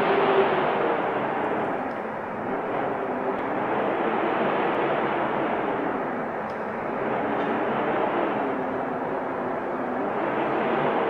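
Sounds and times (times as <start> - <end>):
snowstorm wind rushing: 0.0 - 11.0.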